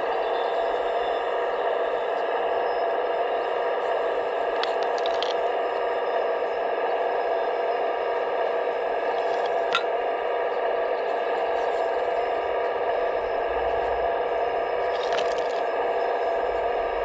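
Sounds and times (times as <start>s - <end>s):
electric motor and pump whining: 0.0s - 17.0s.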